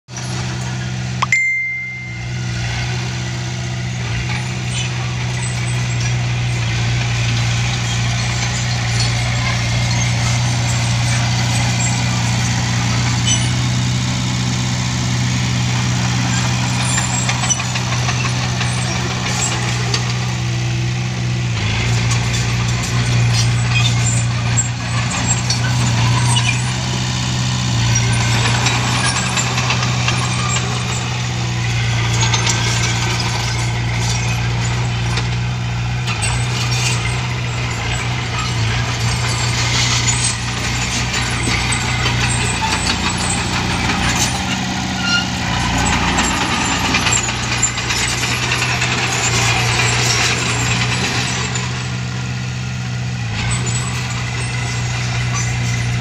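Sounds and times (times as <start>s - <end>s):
bulldozer diesel engine running: 0.1s - 56.0s
steel tracks clanking: 0.2s - 56.0s.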